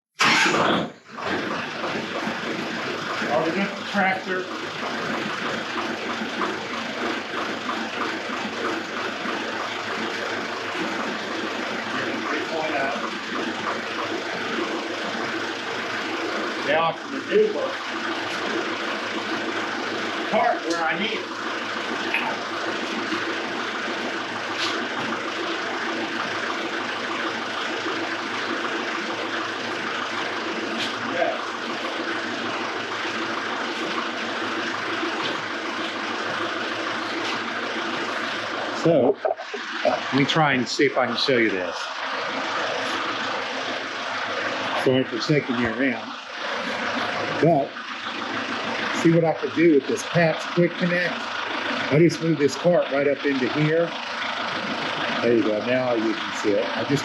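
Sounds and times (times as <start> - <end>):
tractor diesel engine idling: 0.2 - 57.0.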